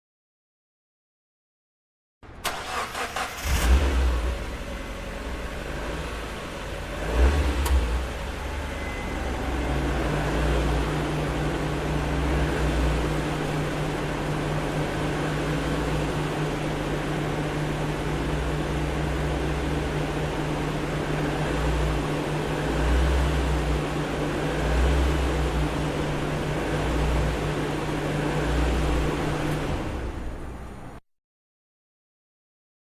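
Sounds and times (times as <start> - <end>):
car engine starting and idling: 2.2 - 31.0.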